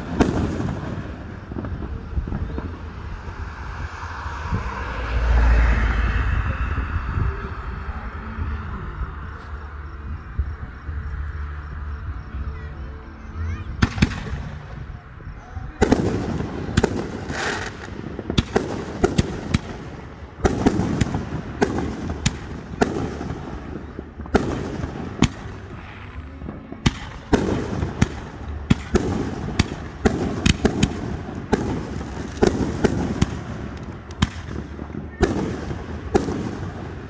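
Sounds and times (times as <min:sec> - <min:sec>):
fireworks crackle: 0:00.0 - 0:09.8, 0:13.5 - 0:37.0
rumbling echo: 0:00.0 - 0:12.6, 0:13.5 - 0:37.0.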